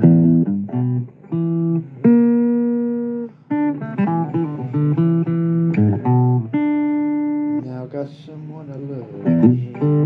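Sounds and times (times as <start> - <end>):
blues guitar single notes: 0.0 - 7.9, 8.7 - 10.0.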